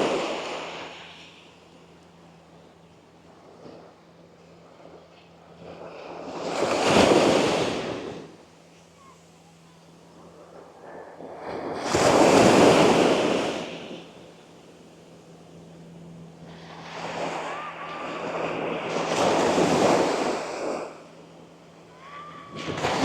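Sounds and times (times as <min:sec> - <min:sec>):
gentle waves breaking on sand: 0:00.0 - 0:23.0.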